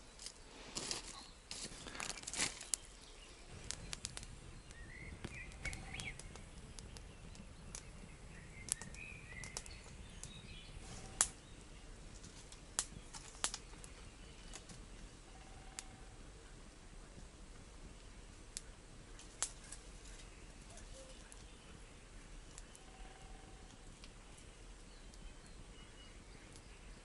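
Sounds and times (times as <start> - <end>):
small birds chirping: 0.0 - 27.0
campfire crackling and popping: 0.2 - 27.0.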